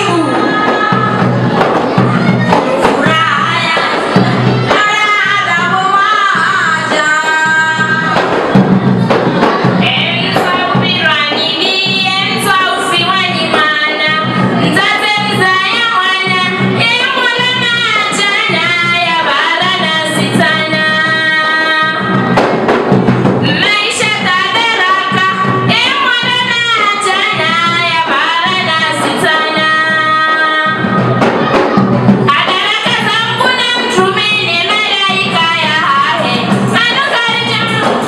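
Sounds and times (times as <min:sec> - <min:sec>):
women singing: 0:00.0 - 0:08.5, 0:09.5 - 0:22.4, 0:23.4 - 0:38.0
drum beat: 0:00.0 - 0:38.0.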